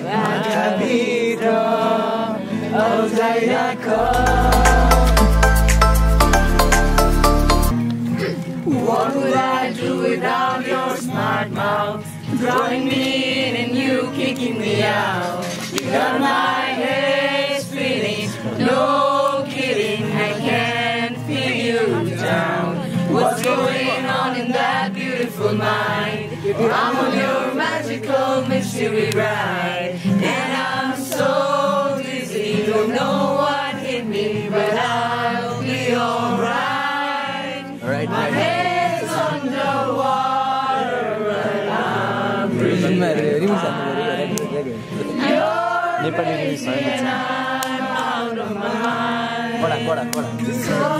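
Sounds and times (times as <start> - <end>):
group singing in chorus: 0.0 - 7.8, 8.6 - 50.9
acoustic guitar: 0.0 - 50.9.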